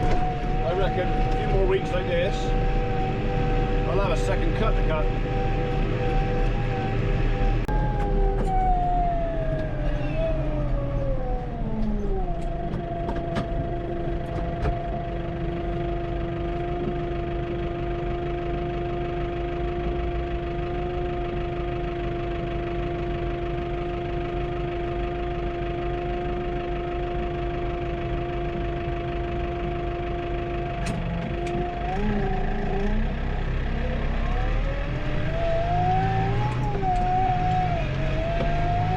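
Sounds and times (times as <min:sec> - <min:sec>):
low engine rumble: 0:00.0 - 0:38.9
tractor whine: 0:00.0 - 0:38.9.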